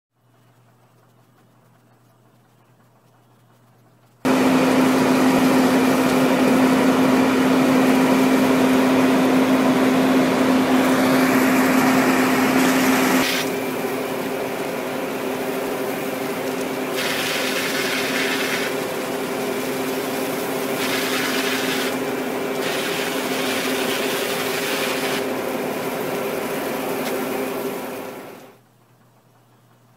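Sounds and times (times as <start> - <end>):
water cannon motor humming: 0.5 - 28.6.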